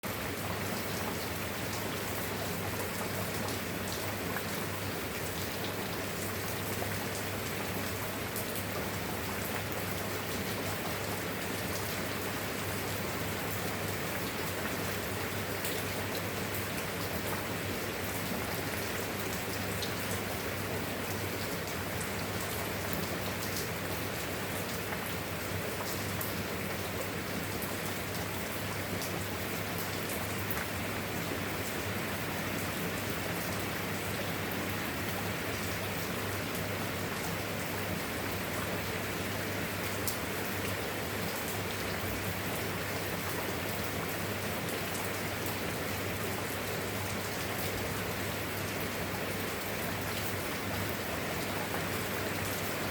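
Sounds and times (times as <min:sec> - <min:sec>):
steady rain with drop ticks: 0:00.0 - 0:52.9.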